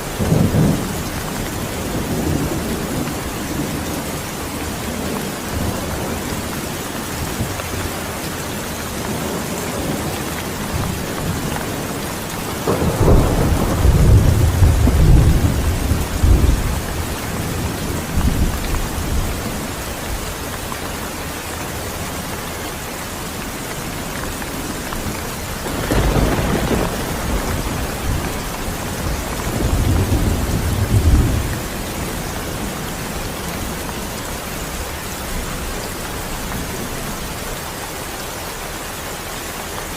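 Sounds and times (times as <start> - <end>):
heavy rain: 0.0 - 39.9
low rolling thunder: 0.1 - 8.0, 9.0 - 20.3, 23.9 - 37.2.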